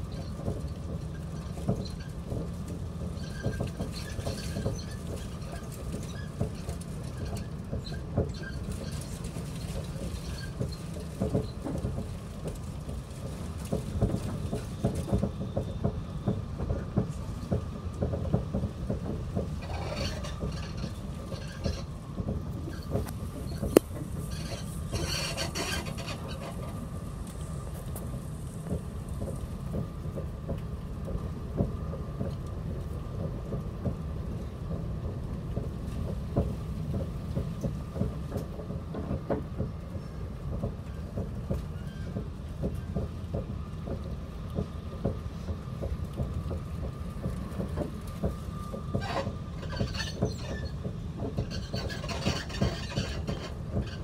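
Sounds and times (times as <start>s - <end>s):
vehicle cabin rumble and rattling: 0.0s - 54.0s.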